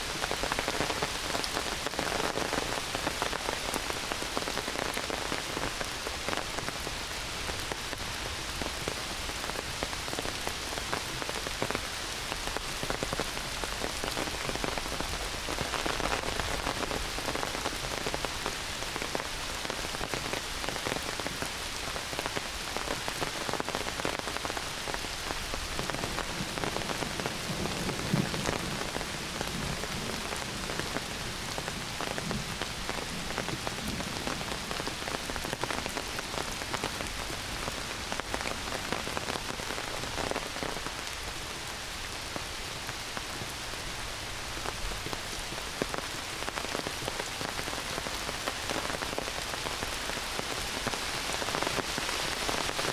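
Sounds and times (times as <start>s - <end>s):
close raindrops striking: 0.0s - 52.9s
heavy rain pouring on forest: 0.0s - 52.9s.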